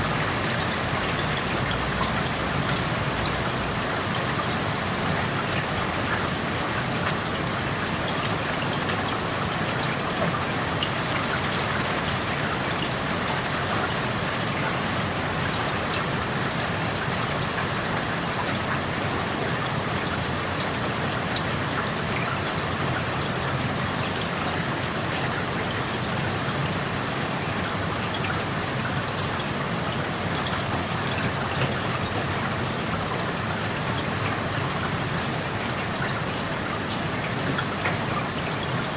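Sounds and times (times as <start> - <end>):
rain drops pattering: 0.0 - 38.9.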